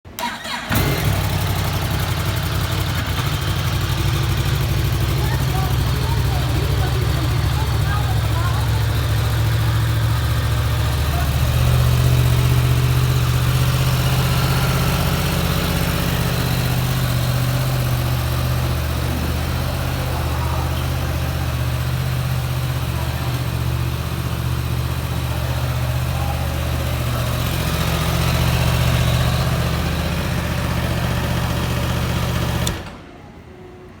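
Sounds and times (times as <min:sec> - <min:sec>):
motorcycle engine idling: 0:00.2 - 0:32.8.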